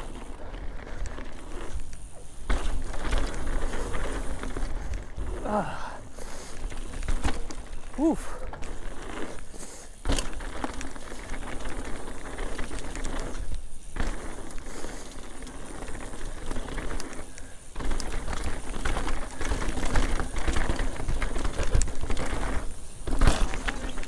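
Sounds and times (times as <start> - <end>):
bike rattling and clicking: 0.0 - 24.0
tyres crunching over dirt: 0.0 - 24.0.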